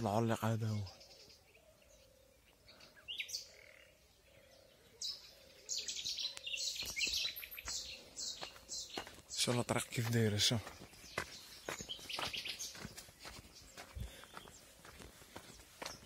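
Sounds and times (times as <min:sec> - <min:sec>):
songbird twittering: 0:00.0 - 0:16.0.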